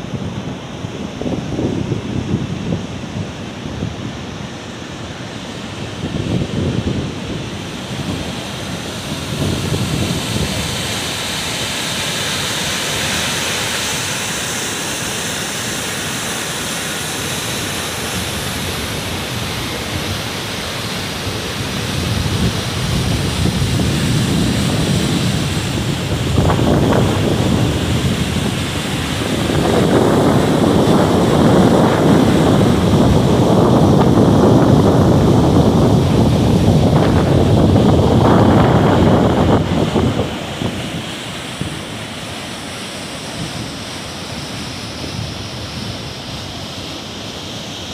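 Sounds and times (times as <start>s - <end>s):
wind gusts on microphone: 0.0s - 47.9s.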